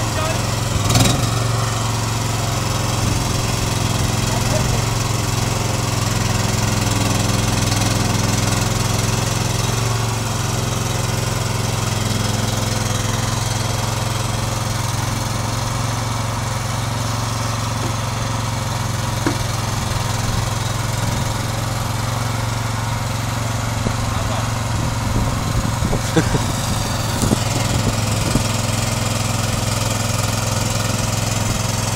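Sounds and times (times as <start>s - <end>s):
log loader engine running: 0.0s - 31.9s.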